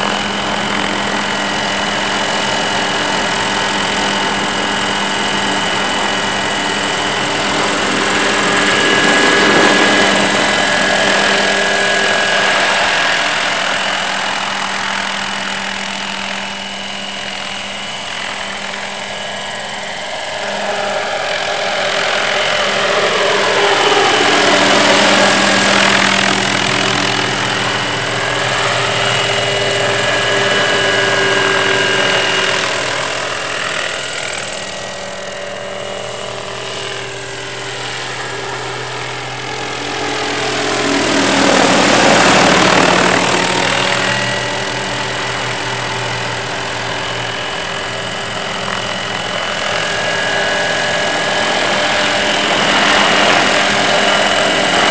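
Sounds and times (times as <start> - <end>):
model helicopter flying past: 0.0 - 54.9.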